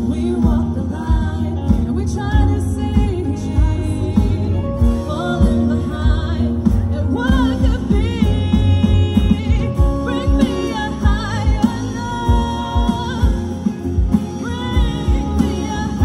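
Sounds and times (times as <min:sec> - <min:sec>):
live band playing: 0:00.0 - 0:16.0
person singing with vibrato: 0:00.0 - 0:16.0.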